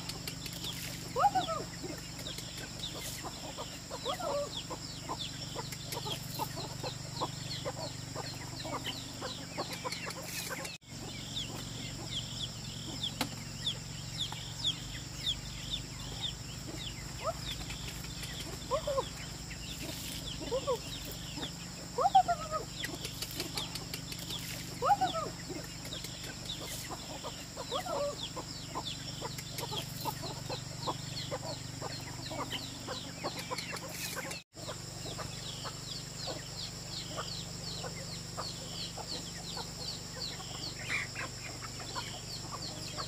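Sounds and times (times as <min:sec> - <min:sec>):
chicks peeping: 0:00.0 - 0:43.0
steady low hum: 0:00.0 - 0:43.0.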